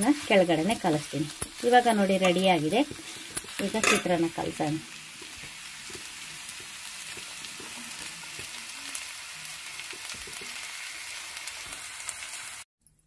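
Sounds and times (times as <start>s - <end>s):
food sizzling in a pan: 0.0s - 12.7s.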